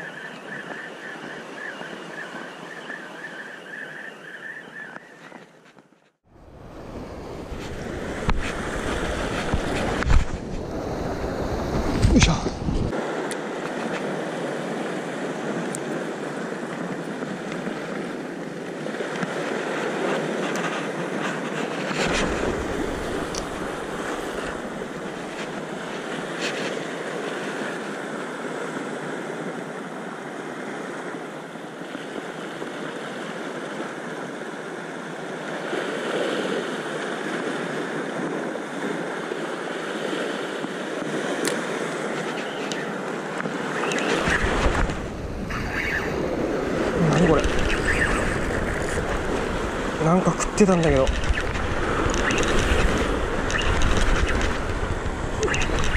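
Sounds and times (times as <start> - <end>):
sea surf washing over rocks: 6.4 - 55.9.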